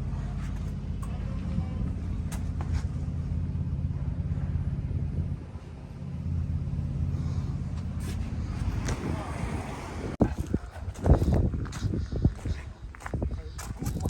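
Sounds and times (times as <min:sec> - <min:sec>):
engine running low hum: 0:00.0 - 0:14.0.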